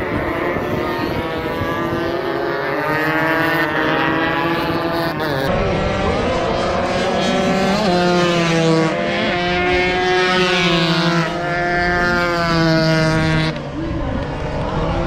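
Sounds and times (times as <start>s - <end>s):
motorcycles racing at high revs: 0.0s - 15.0s.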